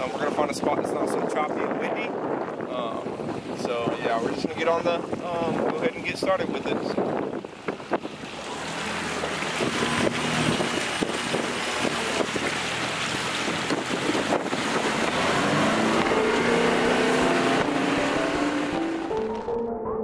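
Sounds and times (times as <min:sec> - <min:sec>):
wind on microphone: 0:00.0 - 0:19.3
water rushing past hull: 0:00.0 - 0:19.5
outboard motor running: 0:02.2 - 0:19.2.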